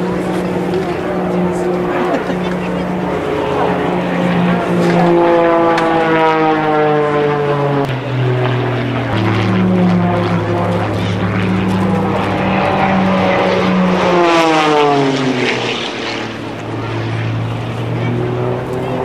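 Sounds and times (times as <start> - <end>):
propeller planes flying past: 0.0 - 19.0.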